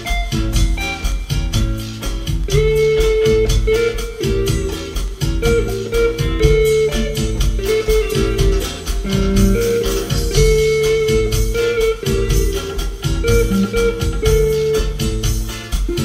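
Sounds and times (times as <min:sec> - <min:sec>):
bass line: 0:00.0 - 0:16.0
drum beat: 0:00.0 - 0:16.0
electric guitar lead melody: 0:00.0 - 0:16.0.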